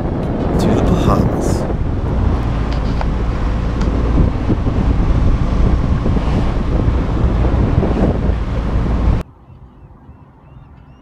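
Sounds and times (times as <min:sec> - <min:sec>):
waves rushing along hull: 0:00.0 - 0:09.2
wind buffeting microphone: 0:00.0 - 0:11.0.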